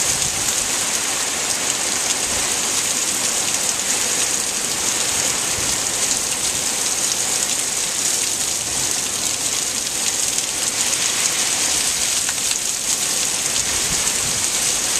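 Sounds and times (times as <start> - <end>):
heavy rain on leaves and pavement: 0.0 - 14.9.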